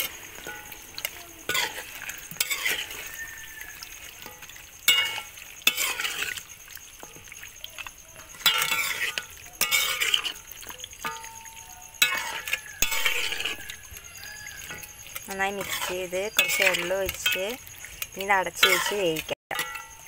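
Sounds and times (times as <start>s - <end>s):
faint sizzle of cooking: 0.0s - 20.0s
spoon scraping metal pan: 0.0s - 20.0s.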